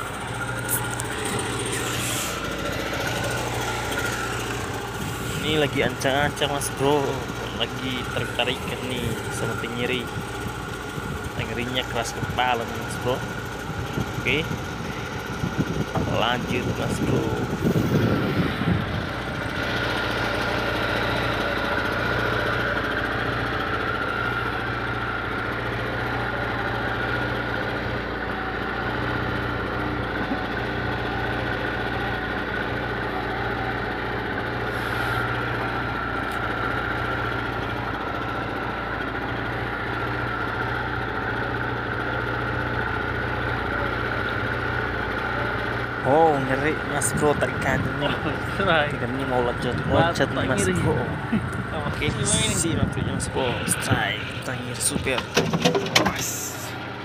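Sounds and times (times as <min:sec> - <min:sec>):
small petrol engine running: 0:00.0 - 0:57.0.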